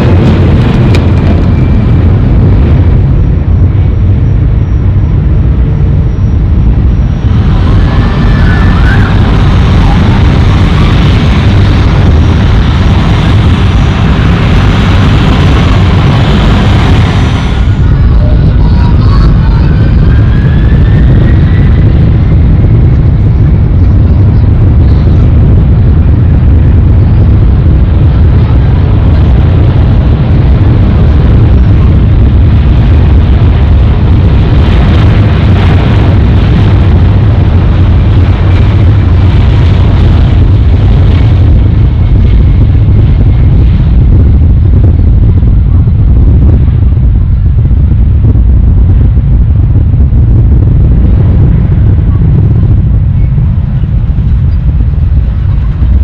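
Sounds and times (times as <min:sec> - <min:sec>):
engine whine: 0:00.0 - 0:56.0
jet engines rumbling: 0:00.0 - 0:56.0.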